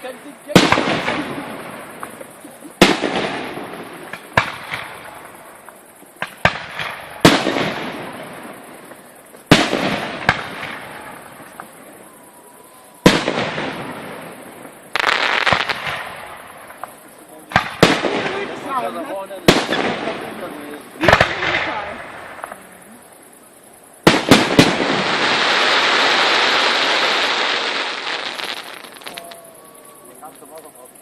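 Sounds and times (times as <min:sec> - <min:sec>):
fireworks crackle: 0:00.0 - 0:23.1, 0:24.0 - 0:30.9
fireworks bursting: 0:00.0 - 0:31.0.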